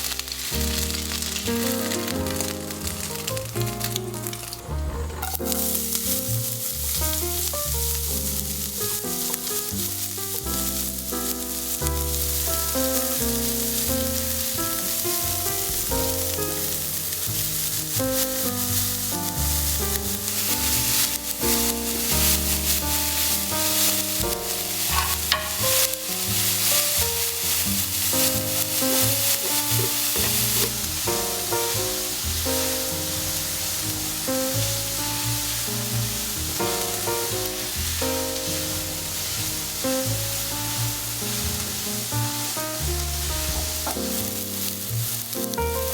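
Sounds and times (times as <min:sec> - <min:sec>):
calm piano music: 0:00.0 - 0:45.9
food sizzling in a pan: 0:00.0 - 0:45.9.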